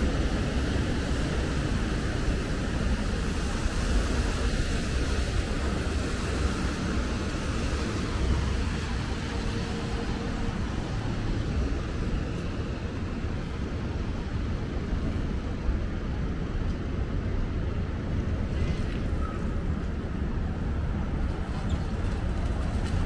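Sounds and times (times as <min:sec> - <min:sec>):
low traffic rumble: 0:00.0 - 0:23.0.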